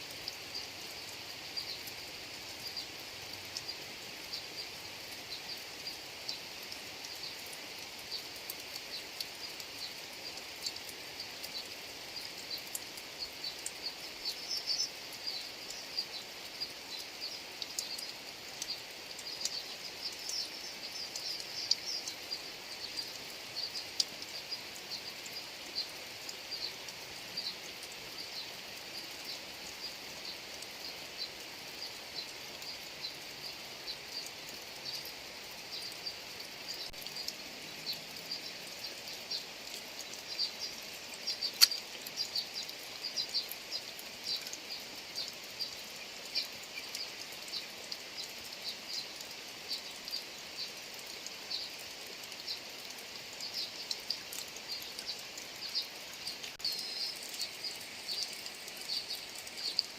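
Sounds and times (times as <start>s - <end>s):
rain hissing with ticks: 0.0s - 59.9s.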